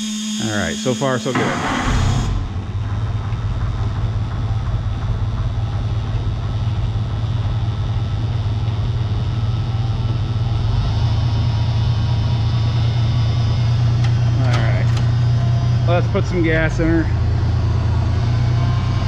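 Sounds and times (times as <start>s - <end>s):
tractor engine running: 1.3s - 19.0s.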